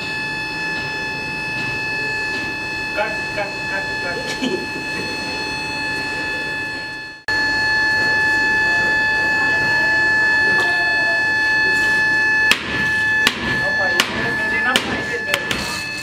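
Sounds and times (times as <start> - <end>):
high-pitched machine whine: 0.0 - 16.0.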